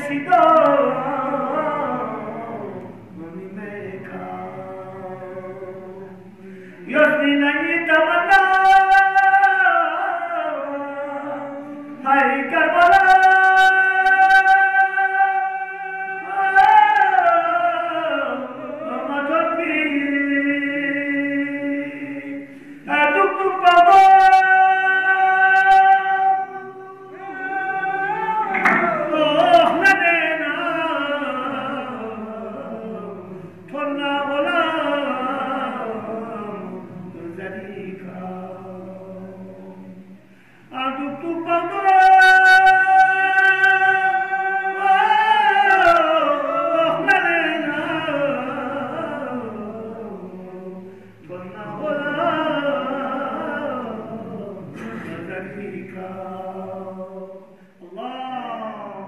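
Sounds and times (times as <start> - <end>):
man chanting: 0.0 - 40.0, 40.7 - 59.0.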